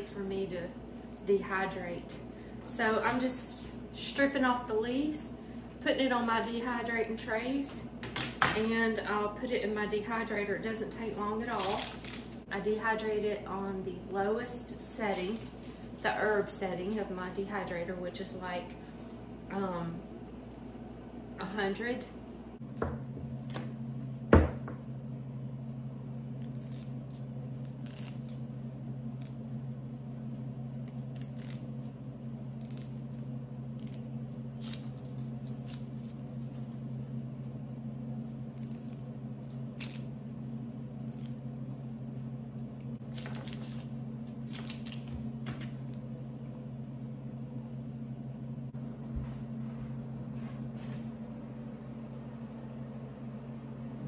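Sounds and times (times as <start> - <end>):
food dehydrator humming: 0.1 - 54.0.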